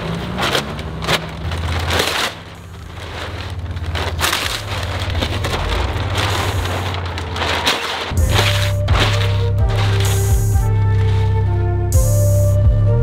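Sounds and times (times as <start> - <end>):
foil wrap crinkling: 0.0 - 11.6.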